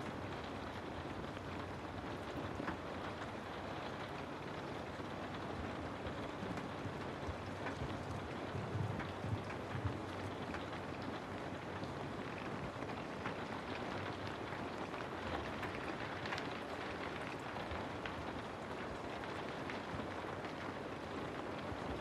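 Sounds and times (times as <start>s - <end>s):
rain falling on a house: 0.0s - 22.0s.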